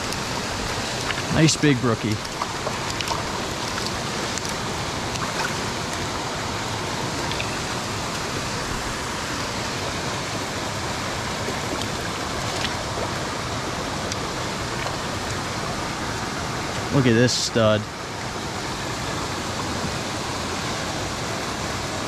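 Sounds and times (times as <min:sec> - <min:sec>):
brook water rushing over stones: 0:00.0 - 0:22.0.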